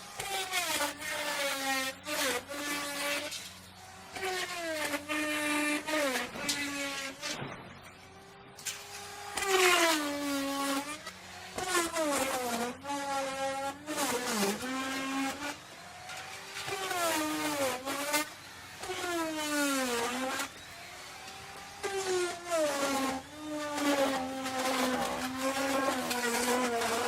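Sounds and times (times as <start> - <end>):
router bit rasping through wood: 0.0 - 27.0
wood router motor whine: 0.0 - 27.0.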